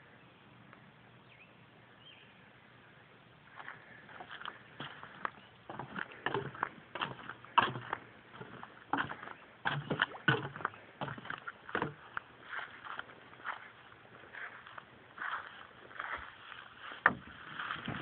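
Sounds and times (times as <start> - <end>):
footsteps on wood and lawn: 3.5 - 18.0.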